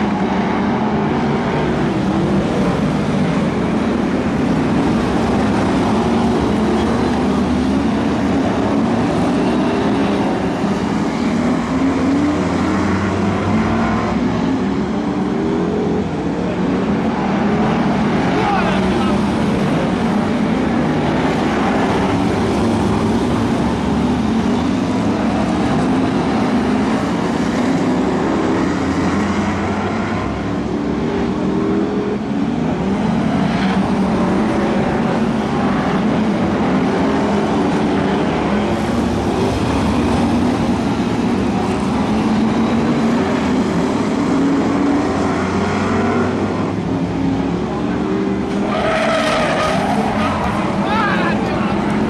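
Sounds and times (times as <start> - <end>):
race car engines revving: 0.0 - 52.0.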